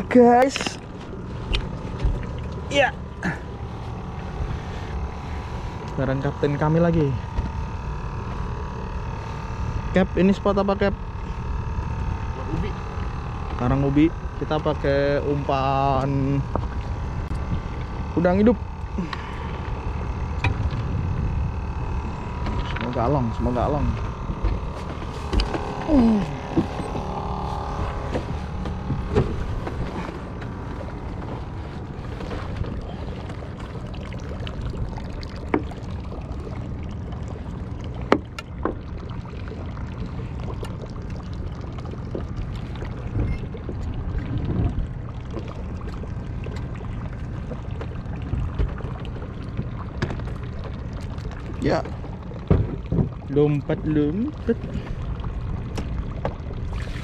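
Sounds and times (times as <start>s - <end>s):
boat engine idling: 0.0s - 57.0s.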